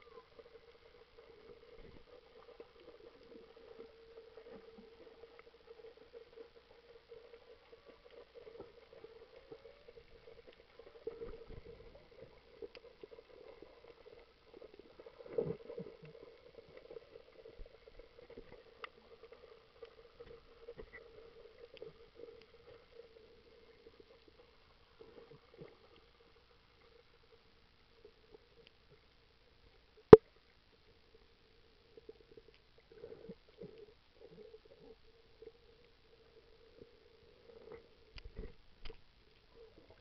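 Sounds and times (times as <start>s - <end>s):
muffled underwater hum: 0.0s - 40.0s
small underwater clicks and pops: 0.0s - 40.0s.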